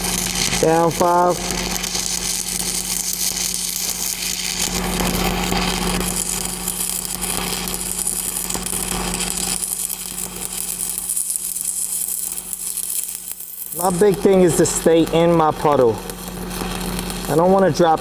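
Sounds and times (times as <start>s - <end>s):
welding arc crackling and hissing: 0.0s - 18.0s.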